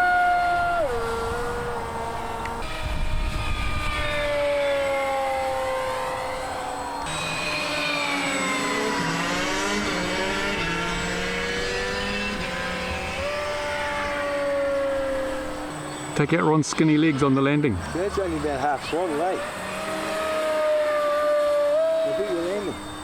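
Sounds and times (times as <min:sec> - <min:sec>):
model airplane motor whining: 0:00.0 - 0:23.0.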